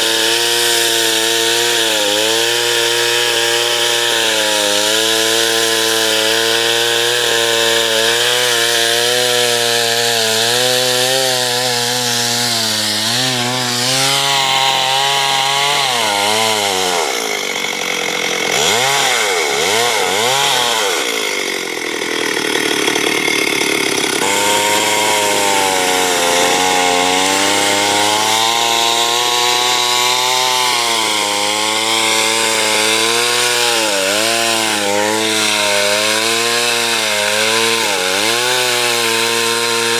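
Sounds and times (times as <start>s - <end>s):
chainsaw cutting a tree: 0.0s - 39.9s.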